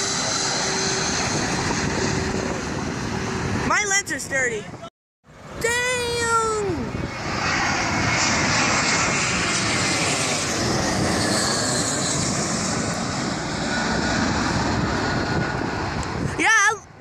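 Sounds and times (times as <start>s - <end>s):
jet airliner engines passing: 0.0s - 17.0s.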